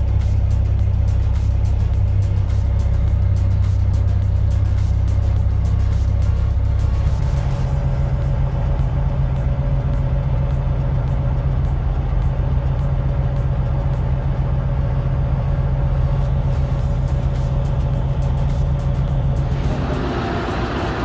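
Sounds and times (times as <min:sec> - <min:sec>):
heavy machine engine running: 0:00.0 - 0:21.0.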